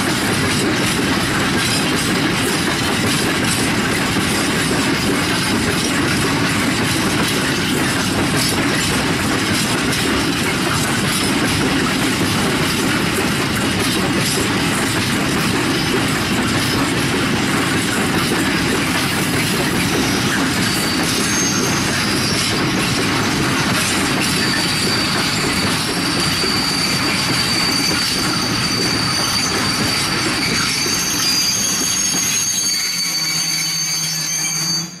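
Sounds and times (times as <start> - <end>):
train wheels rumbling on rail: 0.0 - 35.0
high wheel squeal: 3.4 - 35.0.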